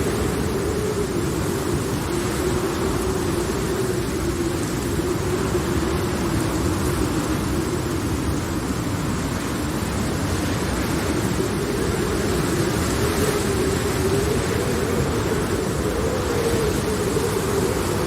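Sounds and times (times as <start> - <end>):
rain rushing: 0.0 - 18.0.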